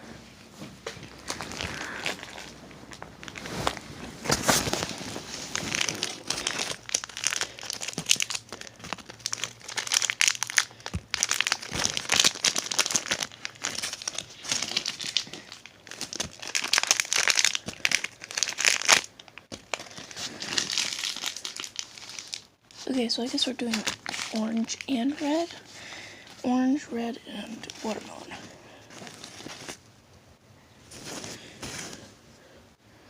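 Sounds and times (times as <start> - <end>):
plastic bag crinkling: 0.9 - 26.6, 27.3 - 29.8.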